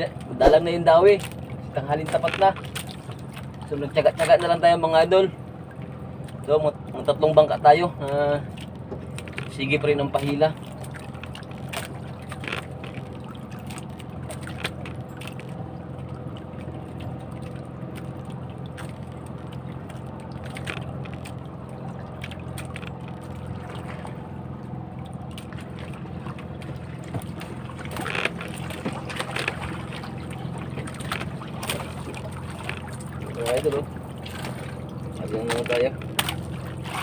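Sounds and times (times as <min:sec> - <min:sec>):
boat engine humming: 0:00.0 - 0:37.0
water noise from hull: 0:00.0 - 0:37.0.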